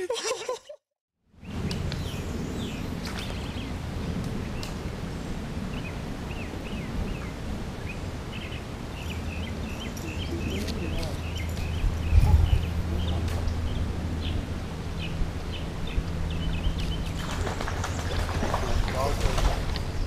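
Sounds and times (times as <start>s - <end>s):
low outdoor rumble: 1.3s - 20.0s
small birds chirping: 1.4s - 20.0s.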